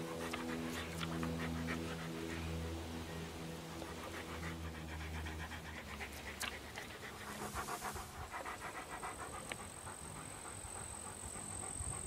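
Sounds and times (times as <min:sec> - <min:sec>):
large dog panting: 0:00.0 - 0:12.0.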